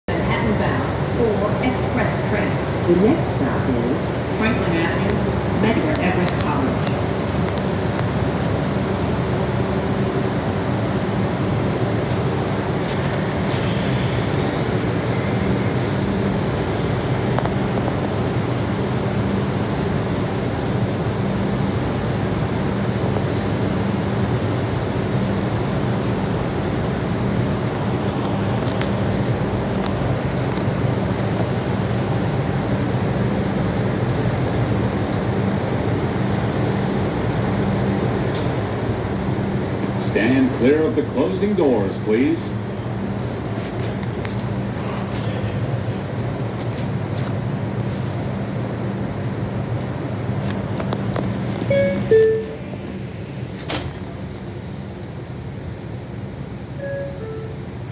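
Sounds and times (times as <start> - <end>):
subway wheels rumbling on rail: 0.0 - 57.9
low hum: 0.1 - 57.9.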